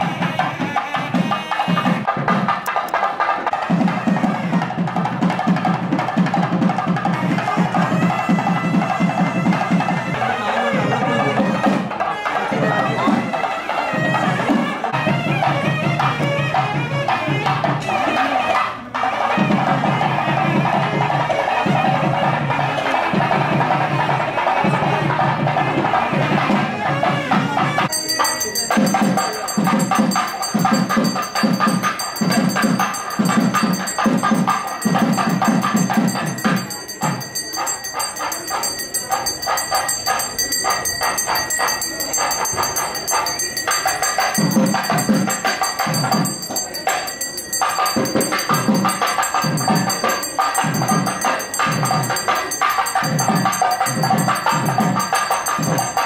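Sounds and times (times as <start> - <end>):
music with drum beat: 0.0 - 56.0.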